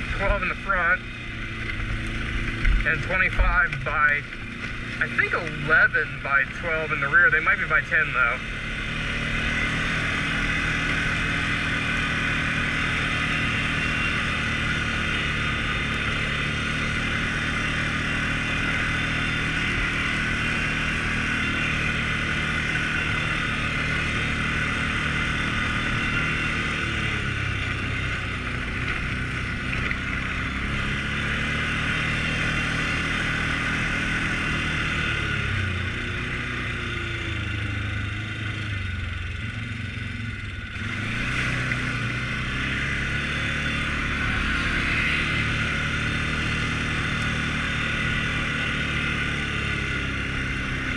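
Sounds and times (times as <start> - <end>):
atv engine droning: 0.0 - 50.9.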